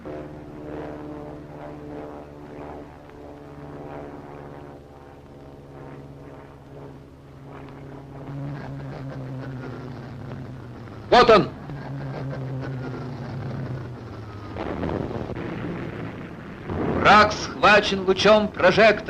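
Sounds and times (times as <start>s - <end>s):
propeller aircraft engines droning: 0.0s - 19.0s.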